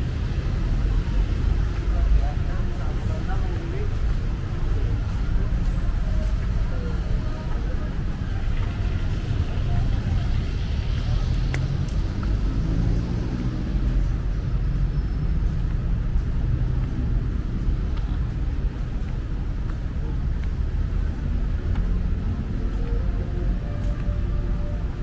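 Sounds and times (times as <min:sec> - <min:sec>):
vehicle engines rumbling: 0:00.0 - 0:25.0.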